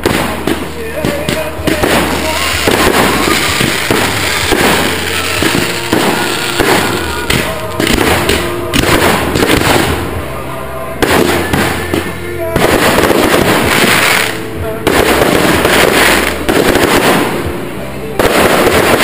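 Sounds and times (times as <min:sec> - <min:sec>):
fireworks launching and bursting: 0:00.0 - 0:10.4, 0:11.0 - 0:19.0
music: 0:00.0 - 0:19.0.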